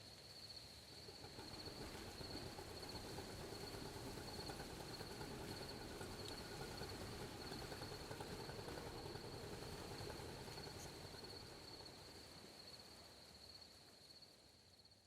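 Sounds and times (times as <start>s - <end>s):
background noise: 0.0s - 15.0s
insects trilling: 0.2s - 14.9s.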